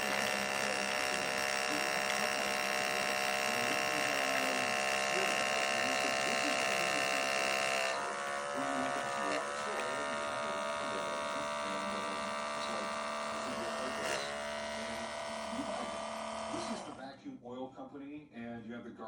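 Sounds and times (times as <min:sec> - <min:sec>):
small electric motor buzzing: 0:00.0 - 0:17.0.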